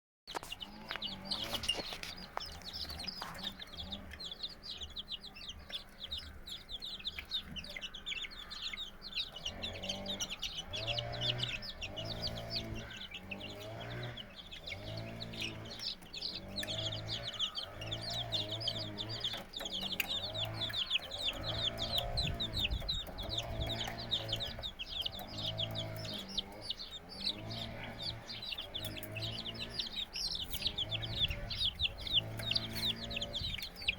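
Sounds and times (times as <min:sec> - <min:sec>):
chicks peeping: 0:00.3 - 0:33.9.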